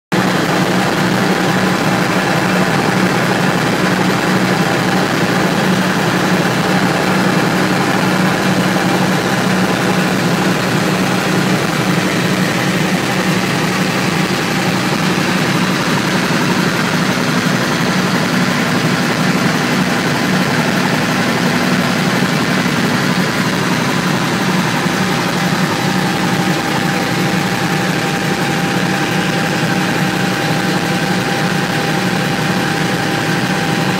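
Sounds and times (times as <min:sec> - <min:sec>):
helicopter engine and rotor drone: 0:00.1 - 0:33.9.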